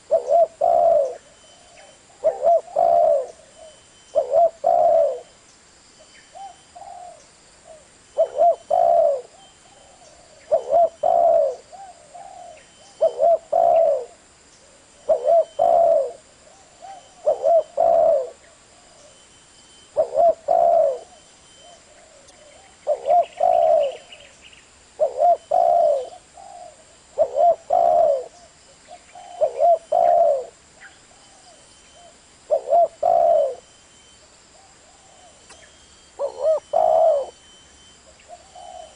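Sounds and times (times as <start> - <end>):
dove cooing: 0.0 - 5.3, 6.3 - 24.3, 25.0 - 38.9.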